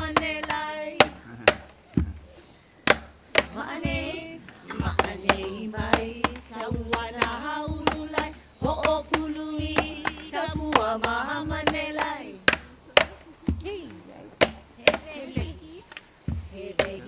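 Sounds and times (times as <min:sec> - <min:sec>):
chanting with long held notes: 0:00.0 - 0:17.0.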